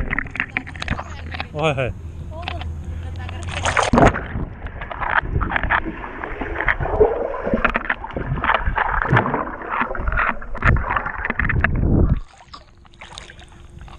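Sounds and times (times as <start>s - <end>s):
underwater gurgling and churning: 0.0s - 1.5s, 3.4s - 13.9s
child kicking and paddling water: 0.0s - 1.6s, 3.2s - 13.9s.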